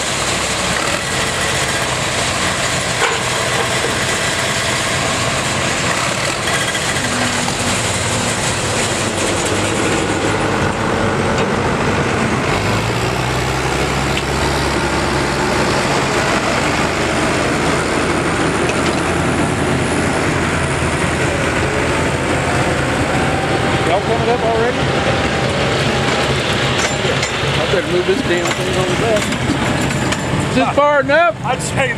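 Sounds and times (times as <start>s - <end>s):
tractor engines droning: 0.0s - 31.9s.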